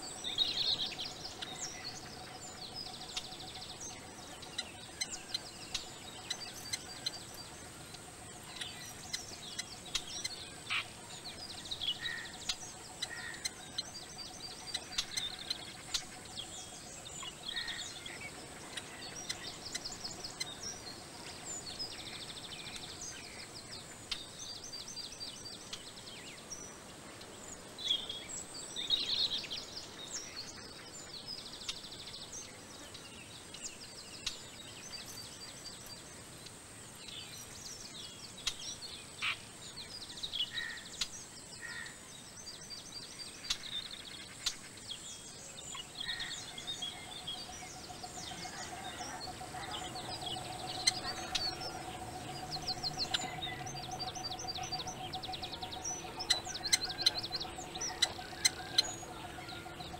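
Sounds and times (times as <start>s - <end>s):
small birds chirping: 0.0s - 59.9s
steady high-pitched hiss: 0.0s - 59.9s.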